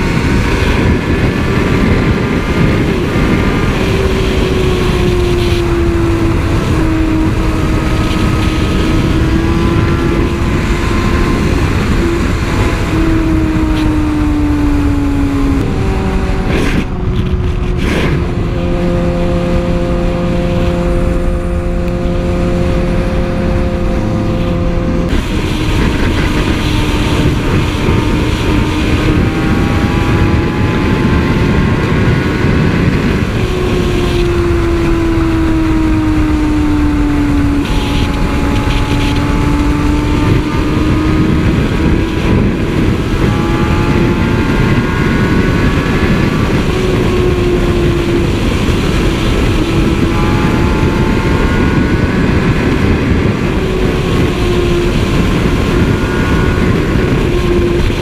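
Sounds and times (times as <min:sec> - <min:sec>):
motorcycle engine at high revs: 0:00.0 - 0:58.0
wind rush on microphone: 0:00.0 - 0:58.0.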